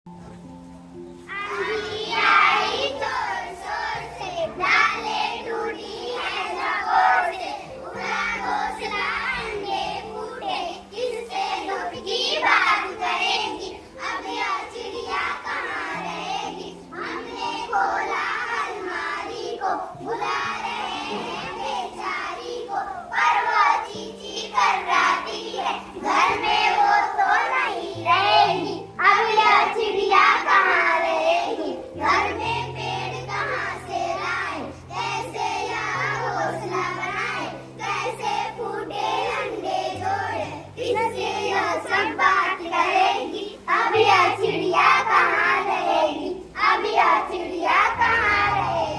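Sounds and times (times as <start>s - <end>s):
children singing together: 1.2s - 48.9s.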